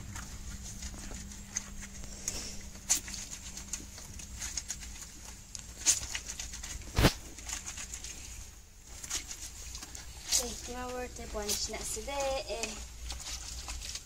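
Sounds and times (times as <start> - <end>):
cloth sloshing in basin water: 0.0 - 14.0.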